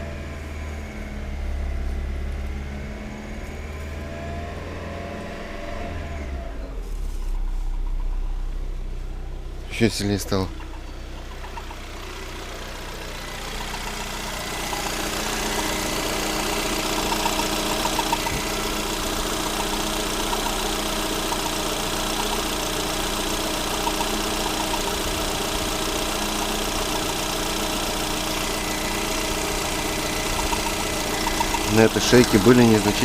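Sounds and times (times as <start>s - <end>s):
car engine idling: 0.0s - 33.0s
engine knocking and grinding: 0.0s - 33.0s.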